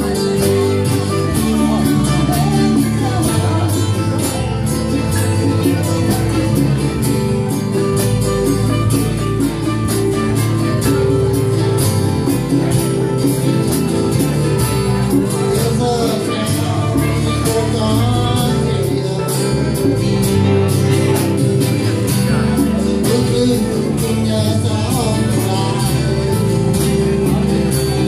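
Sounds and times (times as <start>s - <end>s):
acoustic guitar strumming: 0.0s - 28.0s
electric bass: 0.0s - 28.0s
electric guitar: 0.0s - 28.0s.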